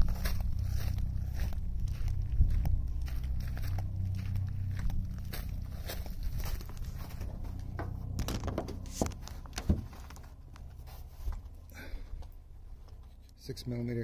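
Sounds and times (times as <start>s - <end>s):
footsteps on gravel and grass: 0.0s - 13.0s.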